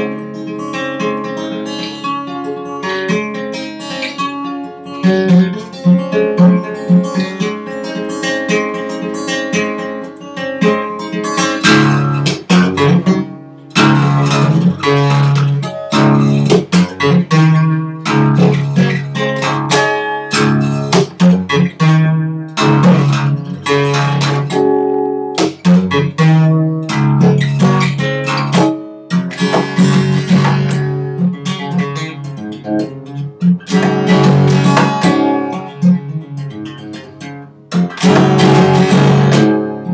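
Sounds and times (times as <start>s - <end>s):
fingerstyle acoustic guitar: 0.0s - 39.9s.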